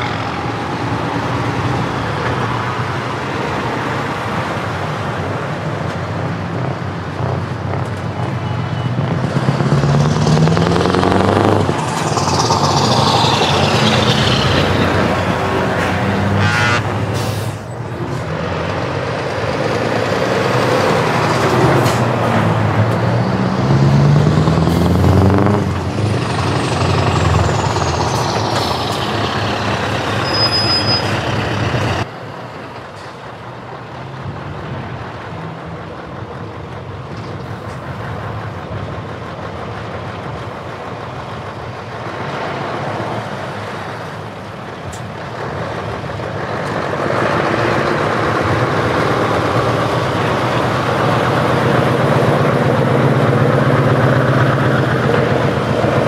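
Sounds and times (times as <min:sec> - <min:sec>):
heavy trucks driving past: 0:00.0 - 0:56.0.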